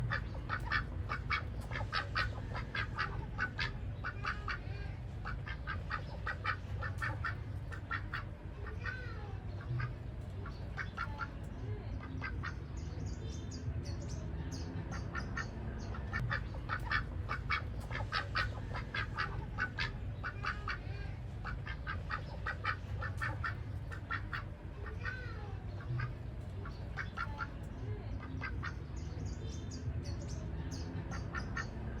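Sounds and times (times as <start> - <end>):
ducks quacking: 0.0 - 12.9, 14.5 - 29.2, 30.7 - 32.0
steady low rumble: 0.0 - 32.0.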